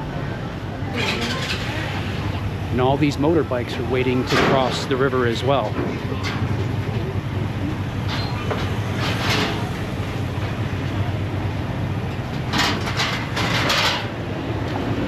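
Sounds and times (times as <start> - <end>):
engines idling low rumble: 0.0 - 15.0.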